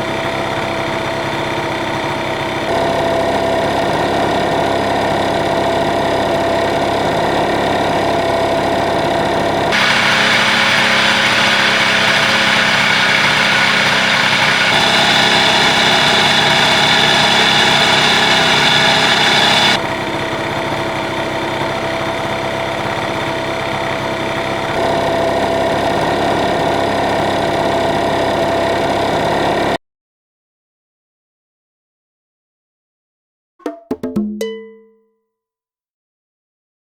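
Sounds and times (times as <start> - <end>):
scooter engines idling: 0.0 - 29.8.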